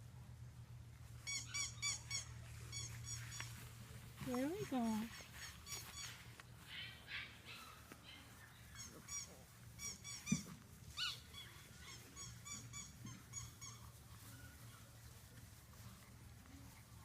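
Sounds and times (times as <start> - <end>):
puppies squeaking and yipping: 1.1 - 15.4.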